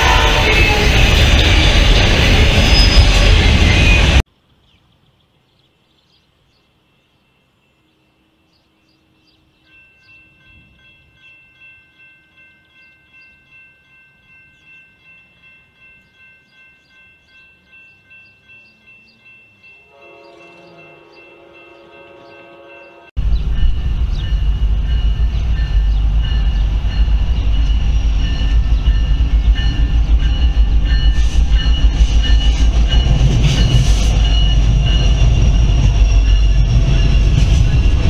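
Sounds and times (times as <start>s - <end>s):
railroad crossing bell ringing: 0.0s - 4.2s, 8.2s - 38.0s.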